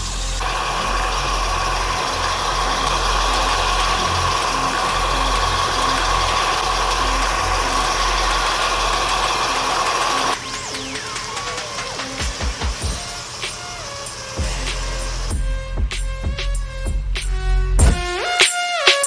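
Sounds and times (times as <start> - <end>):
running water rushing: 0.0 - 15.3
car engine idling: 0.0 - 18.2.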